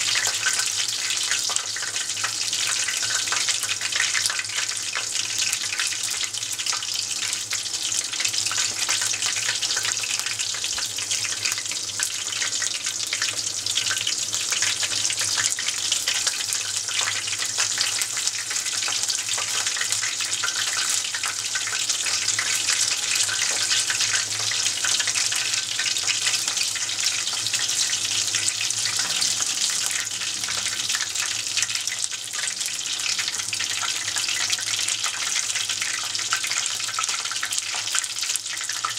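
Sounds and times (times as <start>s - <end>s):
oil crackling and sizzling: 0.0s - 38.9s.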